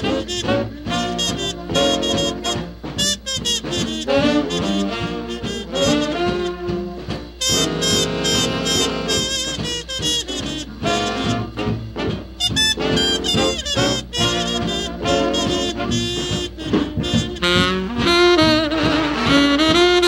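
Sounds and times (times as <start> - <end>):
big band jazz music: 0.0 - 20.0.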